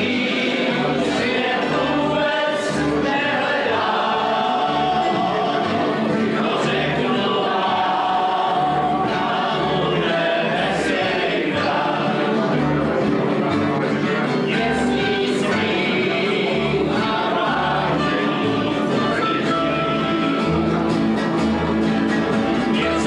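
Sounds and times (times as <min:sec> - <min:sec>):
group of people singing: 0:00.0 - 0:21.2, 0:22.6 - 0:23.0
plucked double bass: 0:00.0 - 0:23.0
strummed acoustic guitars: 0:00.0 - 0:23.0.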